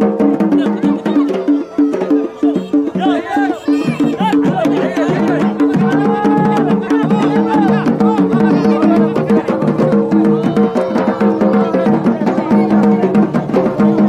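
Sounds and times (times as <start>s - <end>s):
held melody: 0.0s - 13.2s
fast dense drumming: 0.0s - 14.0s.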